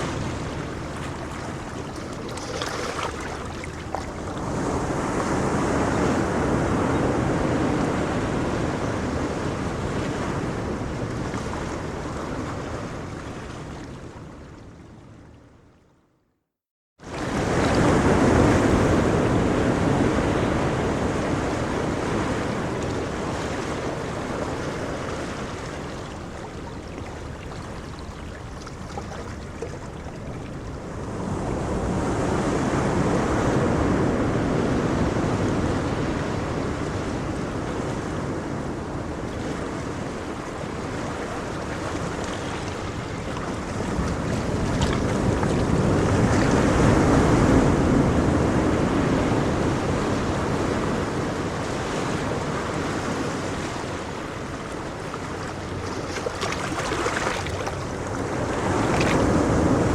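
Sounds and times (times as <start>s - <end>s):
wind on the microphone: 0.0s - 14.6s, 17.1s - 59.9s
waves breaking: 0.0s - 15.3s, 17.0s - 59.9s.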